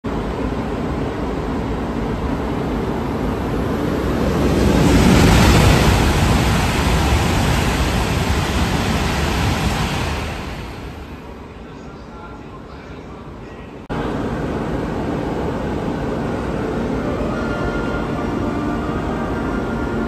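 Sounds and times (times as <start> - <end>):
high-speed train rushing roar: 0.0 - 12.7, 13.3 - 20.0.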